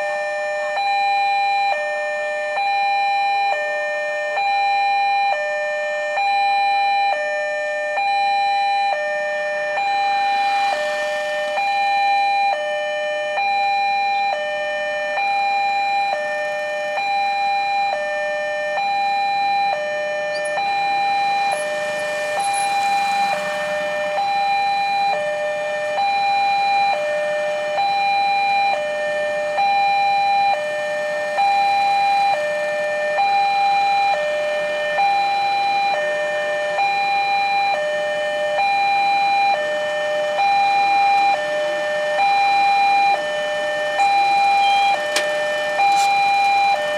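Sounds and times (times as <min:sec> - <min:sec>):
level crossing two-tone alarm: 0:00.0 - 0:46.9.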